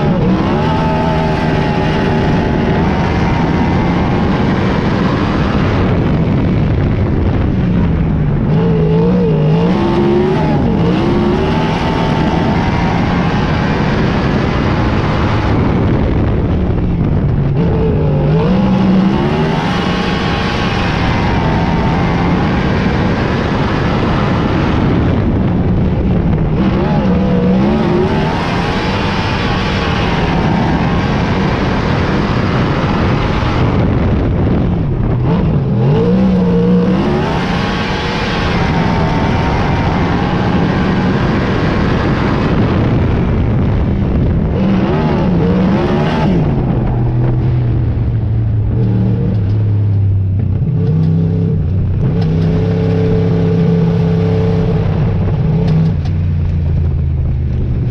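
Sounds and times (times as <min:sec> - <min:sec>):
race car engines racing: 0:00.0 - 0:57.9.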